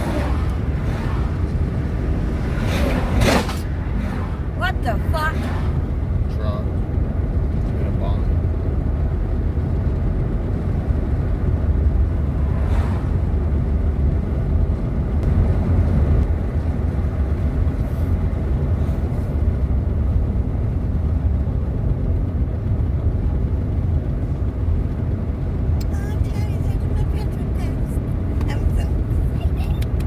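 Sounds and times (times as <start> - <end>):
road and engine rumble in car cabin: 0.0 - 30.0.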